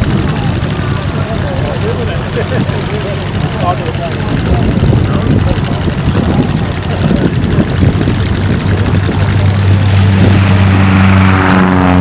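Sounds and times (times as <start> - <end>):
turboprop engines running: 0.0 - 12.0.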